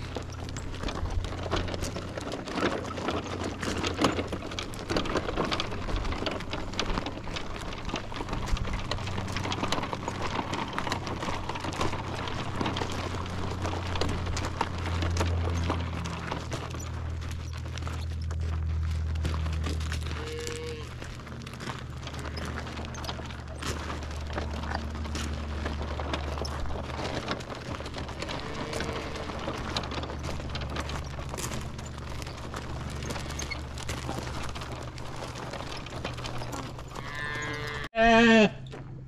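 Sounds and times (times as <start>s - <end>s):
low hum: 0.0s - 37.9s
footsteps on gravel: 0.0s - 39.0s
hooves crunching gravel: 0.0s - 39.0s
wagon wheels crunching gravel: 0.0s - 39.0s.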